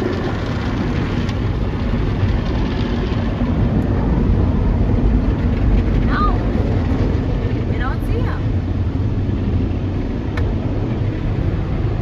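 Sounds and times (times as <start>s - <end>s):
car wash water spray: 0.0s - 12.0s.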